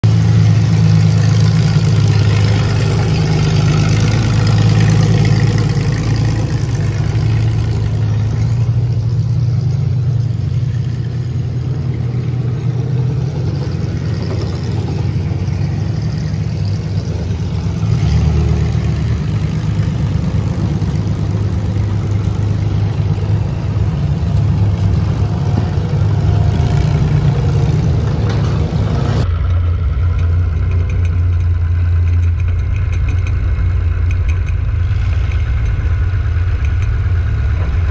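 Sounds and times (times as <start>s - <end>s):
car engines revving loudly: 0.0s - 37.9s
onboard car engine running: 0.0s - 37.9s.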